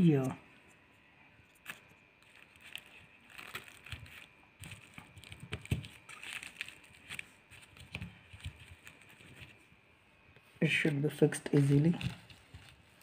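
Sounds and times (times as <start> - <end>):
bubble wrap crinkling: 1.5 - 9.7, 10.6 - 13.0.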